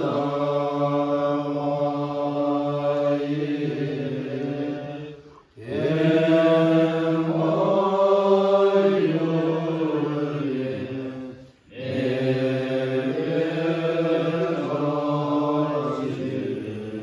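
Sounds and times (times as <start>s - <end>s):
monks chanting in low voices: 0.0s - 17.0s.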